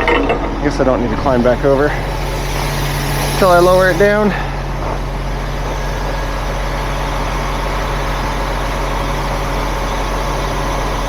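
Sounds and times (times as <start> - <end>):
truck engine idling: 0.7 - 11.0.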